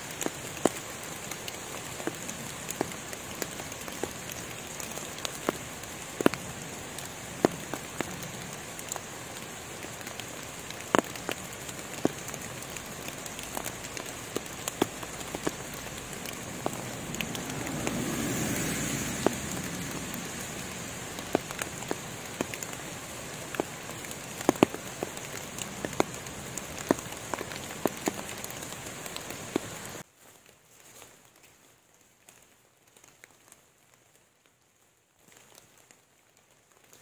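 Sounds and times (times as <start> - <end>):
rain hissing: 0.0 - 30.0
raindrops tapping on leaves: 0.0 - 37.0.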